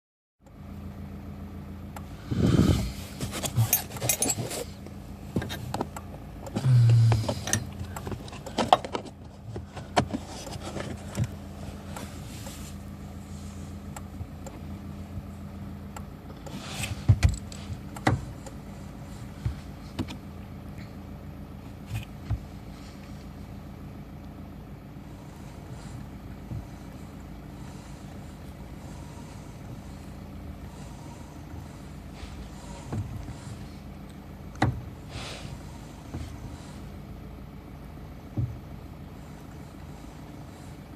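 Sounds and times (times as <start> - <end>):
vehicle engine running: 0.4 - 40.9.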